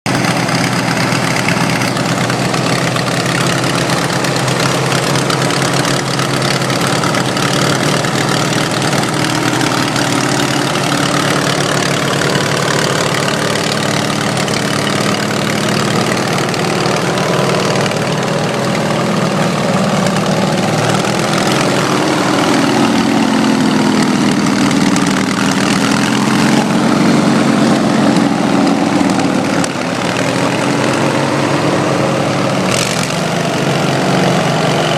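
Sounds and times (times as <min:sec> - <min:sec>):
twin-cylinder engine running: 0:00.1 - 0:34.9.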